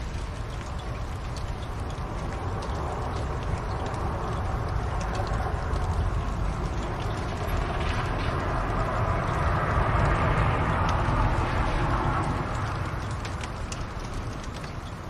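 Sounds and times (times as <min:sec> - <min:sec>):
faint fire crackles: 0:00.0 - 0:15.0
fire roaring in fireplace: 0:00.0 - 0:15.0.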